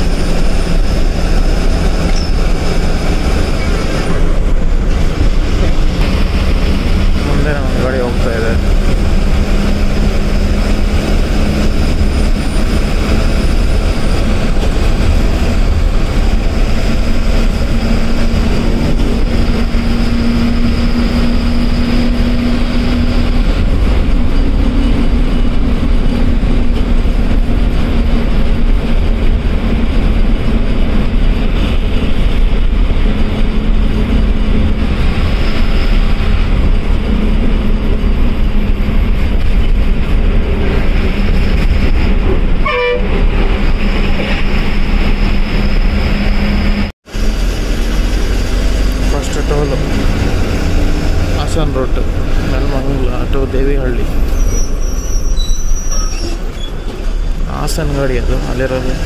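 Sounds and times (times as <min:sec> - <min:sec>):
bus diesel engine rumbling: 0:00.0 - 0:59.0
road noise: 0:00.0 - 0:59.0.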